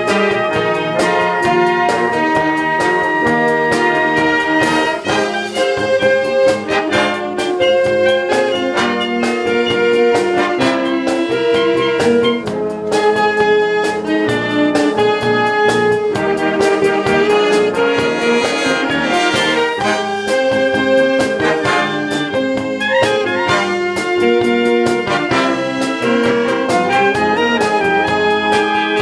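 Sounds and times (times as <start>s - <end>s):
concert wind band playing: 0.0s - 29.0s
percussion steady beat: 0.0s - 29.0s.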